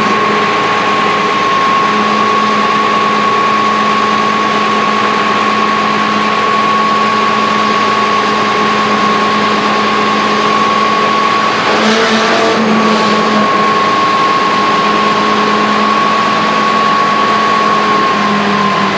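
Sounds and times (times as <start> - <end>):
fire truck pump whining: 0.0 - 18.9.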